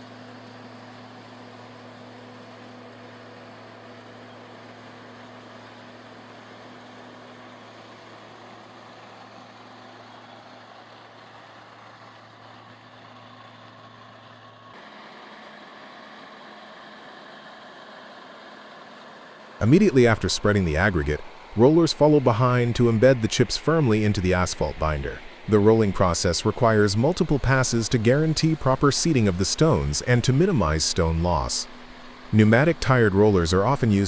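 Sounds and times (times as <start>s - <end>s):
construction machinery engine hum: 0.0s - 34.0s.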